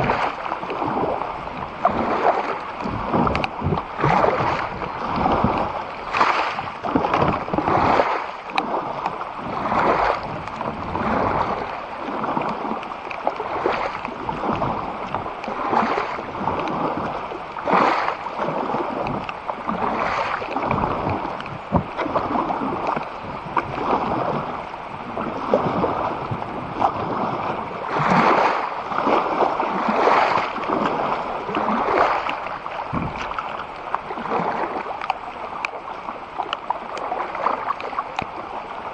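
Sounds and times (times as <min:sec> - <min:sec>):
paddle strokes splashing in water: 0:00.0 - 0:38.9.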